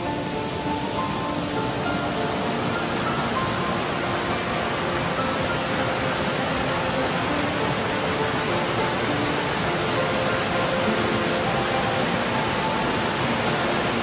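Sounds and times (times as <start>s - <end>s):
faint soft music: 0.0s - 14.0s
steady rushing noise: 0.0s - 14.0s.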